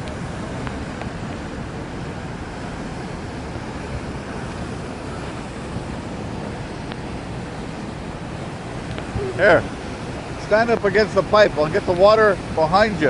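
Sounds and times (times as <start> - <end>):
water jetting and pouring down: 0.0 - 13.0.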